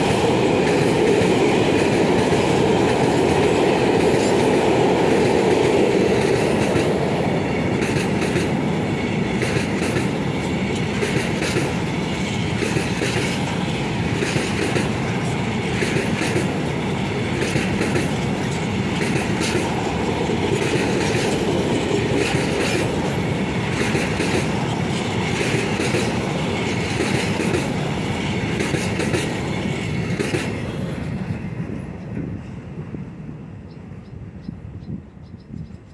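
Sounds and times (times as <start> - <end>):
wheels clacking over rail joints: 0.0 - 31.3.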